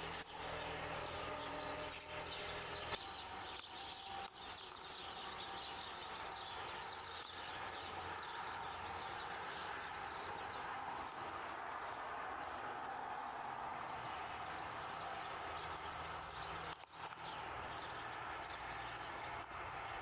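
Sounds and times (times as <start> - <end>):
small birds chirping: 0.0 - 13.4, 14.0 - 20.0
low engine hum: 0.0 - 20.0.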